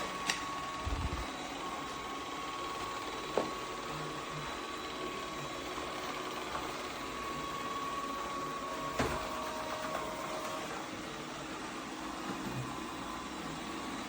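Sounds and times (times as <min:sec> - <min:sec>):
robot vacuum motor whir: 0:00.0 - 0:14.0.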